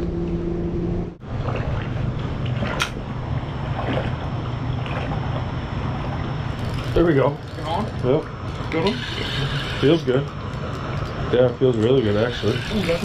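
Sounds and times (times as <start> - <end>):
electric boat motor humming: 0.0 - 13.0
water noise: 0.0 - 13.0.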